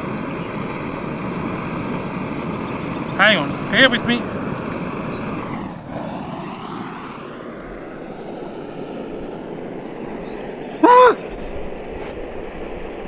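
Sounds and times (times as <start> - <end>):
gas stove burner roaring: 0.0 - 13.0.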